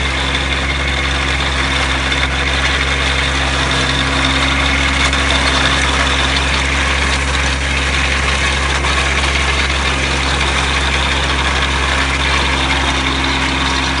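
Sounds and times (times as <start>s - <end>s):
rotor whirring through stubble: 0.0s - 14.0s
tractor engine running: 0.0s - 14.0s.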